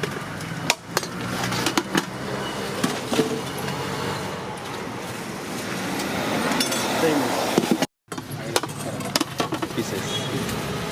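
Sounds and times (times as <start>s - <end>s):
roadside traffic noise: 0.0s - 10.9s.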